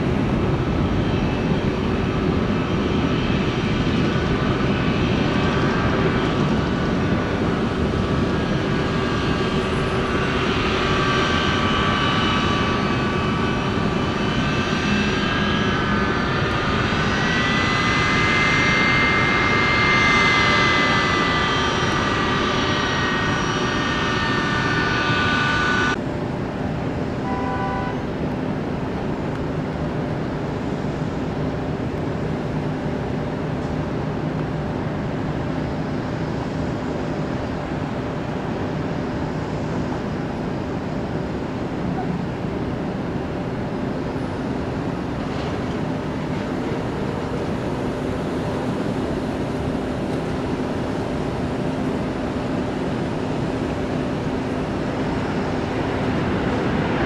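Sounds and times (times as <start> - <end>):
aircraft engines whining: 0.0 - 57.0.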